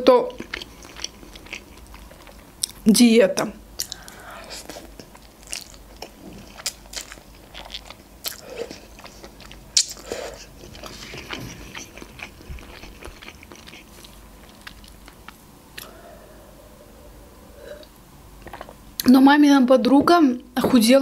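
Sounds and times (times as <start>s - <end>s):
person chewing noodles: 0.3s - 2.8s, 3.8s - 18.8s.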